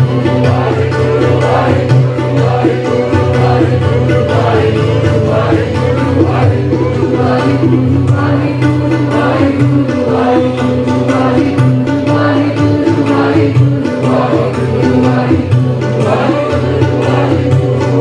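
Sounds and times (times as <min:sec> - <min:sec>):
percussion strokes: 0:00.0 - 0:18.0.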